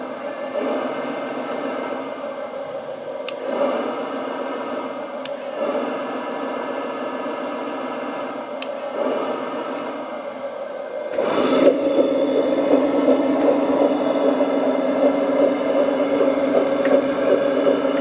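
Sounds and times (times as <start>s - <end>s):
simulated diesel engine drone: 0.0s - 18.0s.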